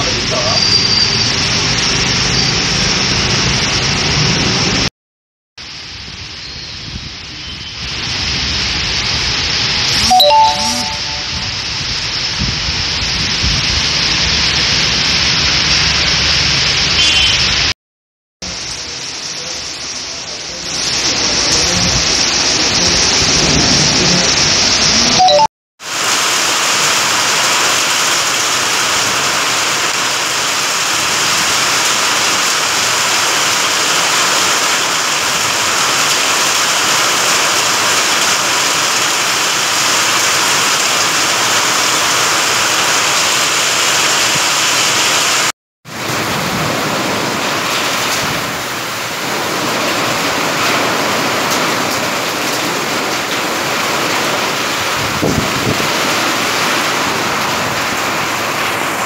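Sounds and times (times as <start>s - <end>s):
heavy rain pouring: 0.0s - 4.9s, 5.6s - 17.7s, 18.4s - 59.0s.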